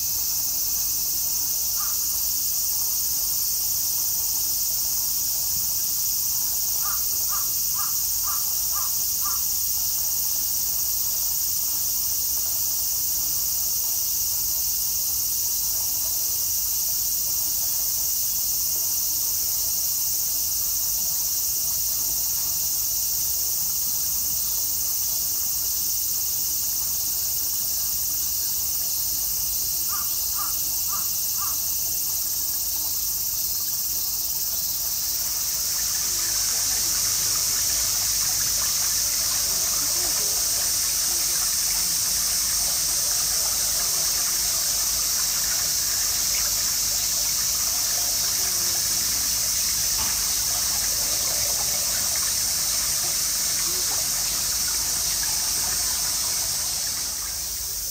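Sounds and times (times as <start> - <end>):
insects droning: 0.0 - 57.9
short insect calls: 0.0 - 57.9.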